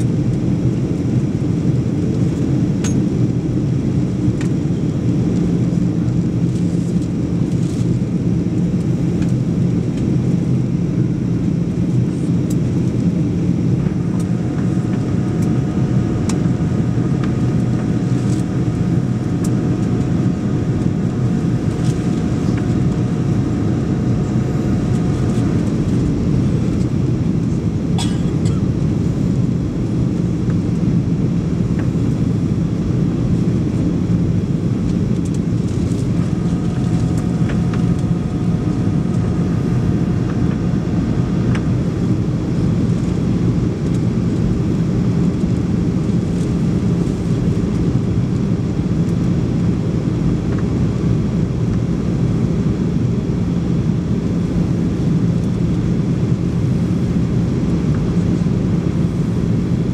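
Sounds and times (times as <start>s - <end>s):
airliner cabin engine rush: 0.0s - 59.9s.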